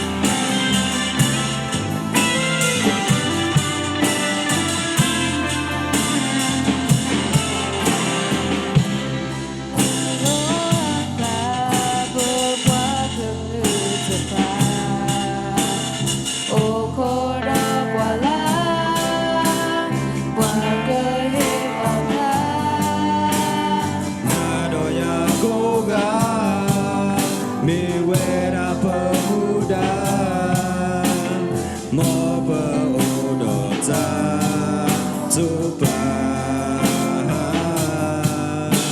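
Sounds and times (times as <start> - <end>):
band with guitar bass and drums: 0.0 - 38.9
person singing: 0.0 - 38.9.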